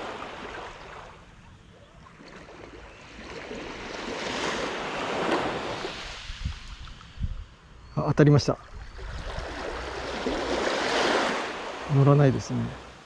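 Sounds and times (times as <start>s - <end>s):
small waves washing onto sand: 0.0s - 1.2s, 2.0s - 7.2s, 8.7s - 12.9s.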